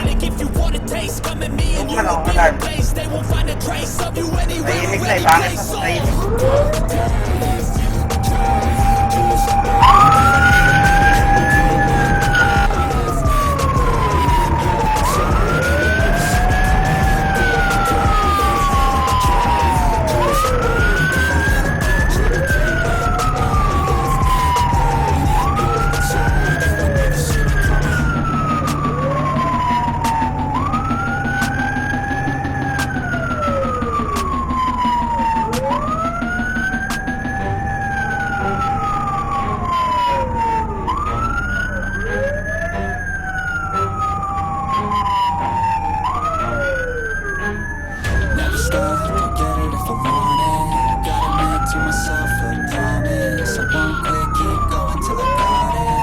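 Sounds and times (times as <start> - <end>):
fire truck sirens wailing: 0.0 - 56.0
low engine rumble: 0.0 - 56.0.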